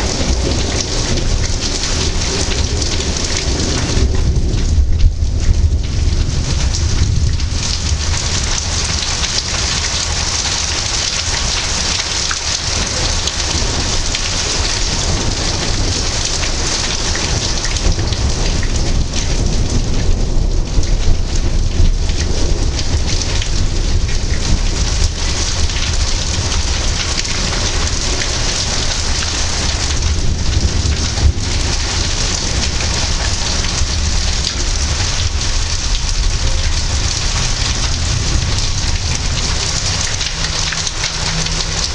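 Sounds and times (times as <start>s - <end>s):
heavy rain falling: 0.0s - 41.9s
low rumble of thunder: 0.0s - 41.9s.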